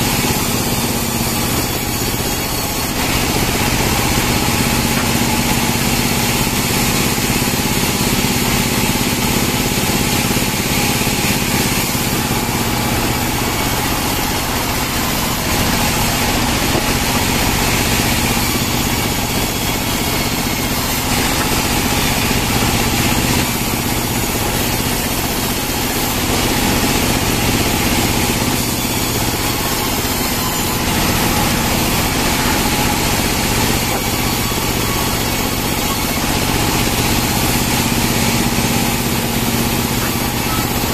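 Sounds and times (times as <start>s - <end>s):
bandsaw mill sawing log: 0.0s - 40.9s.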